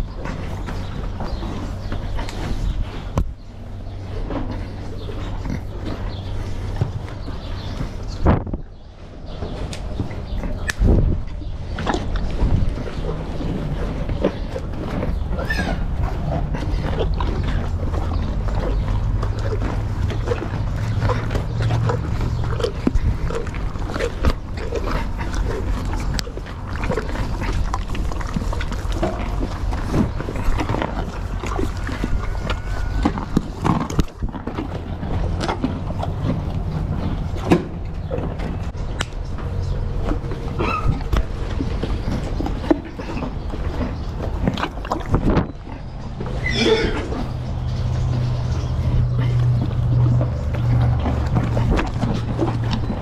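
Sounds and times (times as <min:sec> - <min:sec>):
horses crunching carrots: 0:00.0 - 0:53.0
steady low rumble: 0:00.0 - 0:53.0.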